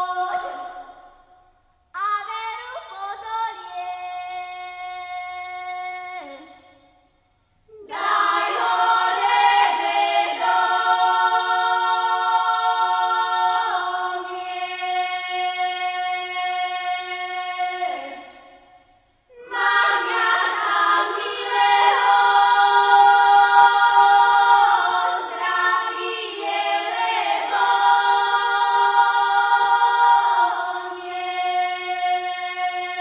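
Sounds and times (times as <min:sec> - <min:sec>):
women singing folk song: 0:00.0 - 0:07.1, 0:07.7 - 0:33.0.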